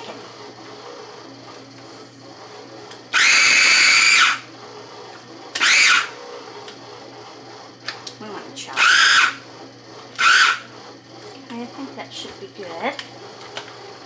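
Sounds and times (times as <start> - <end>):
food processor motor whirring: 0.0 - 14.0.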